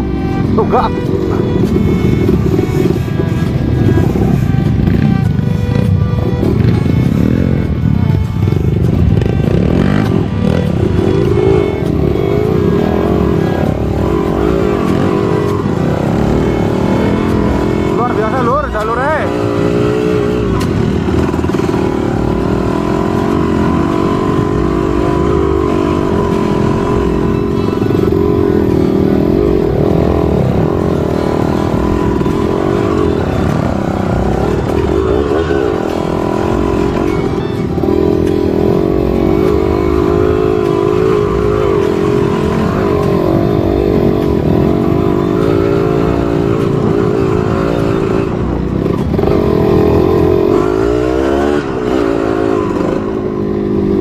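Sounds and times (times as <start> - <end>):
motorcycle engine under throttle: 0.0 - 54.0.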